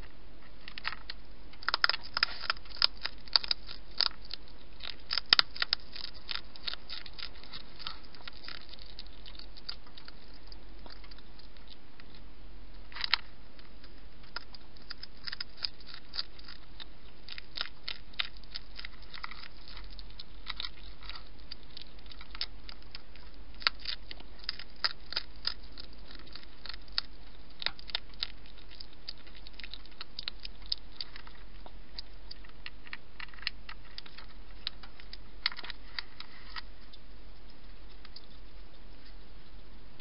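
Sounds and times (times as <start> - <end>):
hedgehog crunching food: 0.0 - 40.0.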